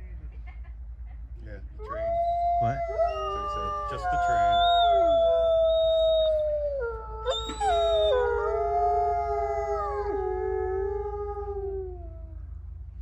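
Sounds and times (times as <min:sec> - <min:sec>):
wolves howling in chorus: 0:01.8 - 0:12.4.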